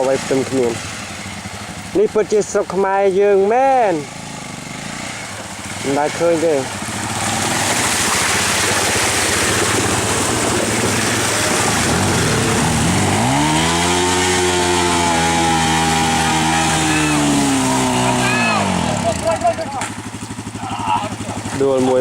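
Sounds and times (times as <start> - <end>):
dirt bike engine running hard: 0.0 - 22.0.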